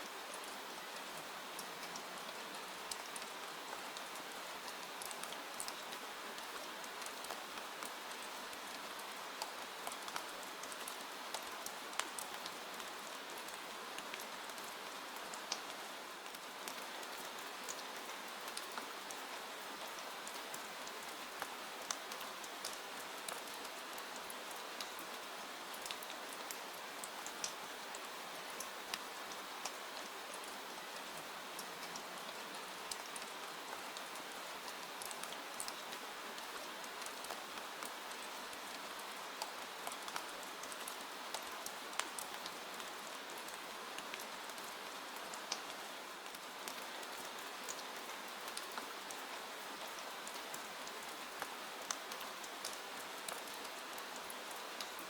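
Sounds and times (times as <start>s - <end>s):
sharp ticks and drips: 0.0s - 55.0s
steady rain falling: 0.0s - 55.0s.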